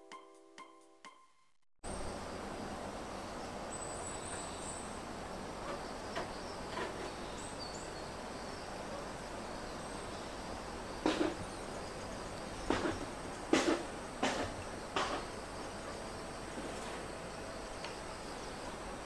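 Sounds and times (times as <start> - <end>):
faint insect chirping: 1.9 - 19.0
steady background hiss: 1.9 - 19.0.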